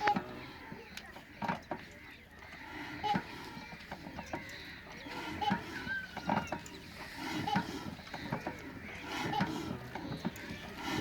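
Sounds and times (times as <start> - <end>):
chickens clucking: 0.0 - 11.0
farmyard animals calling: 0.0 - 11.0.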